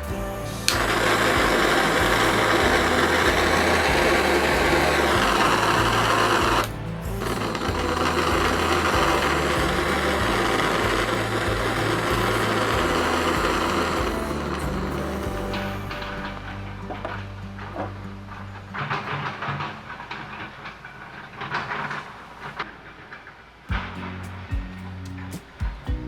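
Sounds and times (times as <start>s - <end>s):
background music: 0.0s - 19.6s, 23.7s - 26.0s.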